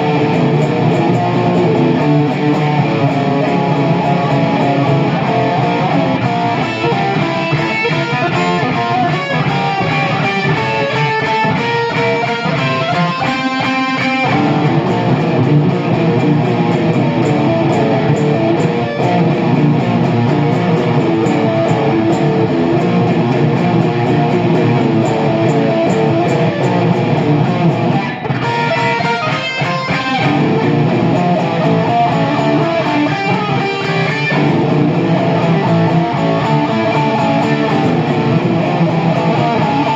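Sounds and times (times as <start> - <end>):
guitar music: 0.0 - 39.9.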